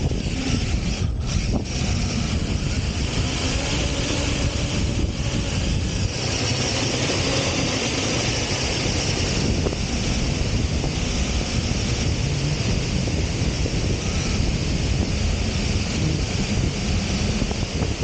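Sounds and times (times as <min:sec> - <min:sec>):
rc car driving over sand: 0:00.0 - 0:18.0
wind rumble on microphone: 0:00.0 - 0:18.0.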